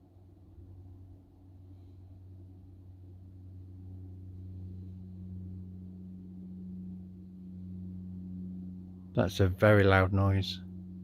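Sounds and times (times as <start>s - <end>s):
low droning hum from sky: 0.0s - 11.0s.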